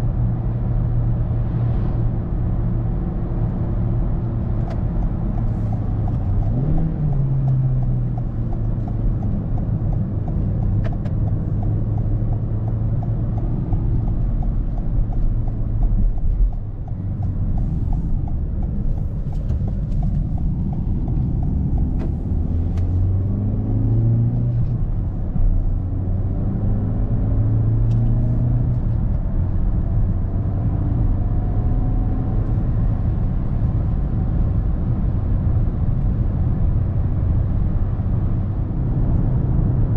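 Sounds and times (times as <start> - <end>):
car engine accelerating: 0.0 - 39.9
tyre and road noise: 0.0 - 39.9.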